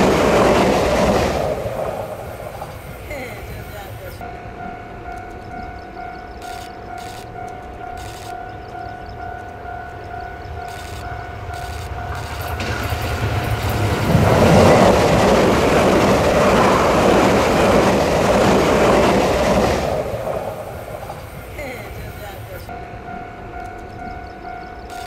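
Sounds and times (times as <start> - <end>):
level crossing warning tone: 0.0 - 25.0
train passing on rails: 0.0 - 25.0.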